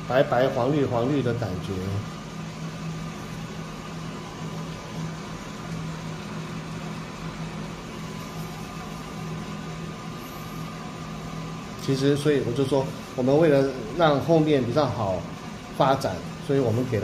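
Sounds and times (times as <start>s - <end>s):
coffee roaster humming: 0.0s - 17.0s.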